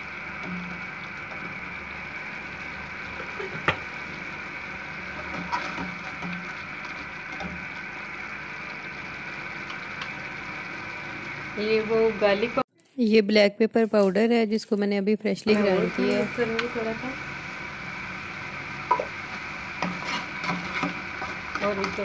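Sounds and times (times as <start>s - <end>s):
tomato puree sizzling in pan: 0.0s - 12.6s, 15.5s - 22.0s.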